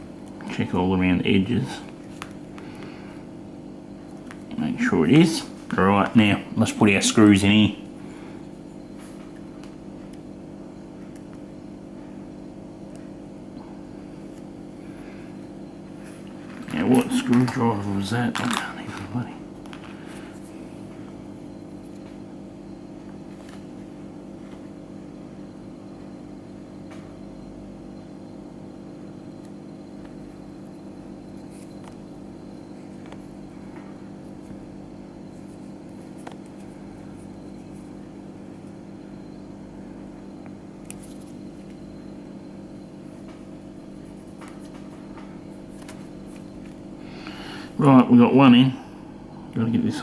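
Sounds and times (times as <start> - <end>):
low background hum: 0.0 - 50.0.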